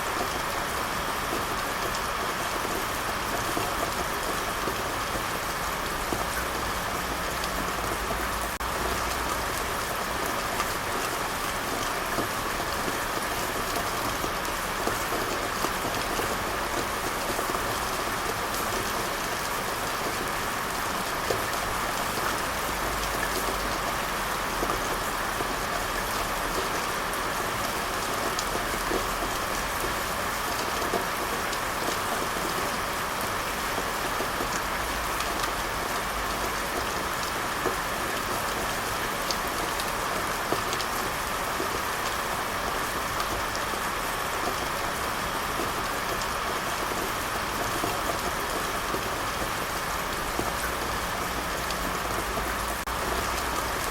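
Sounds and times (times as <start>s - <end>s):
rain drops ticking on surface: 0.0s - 53.9s.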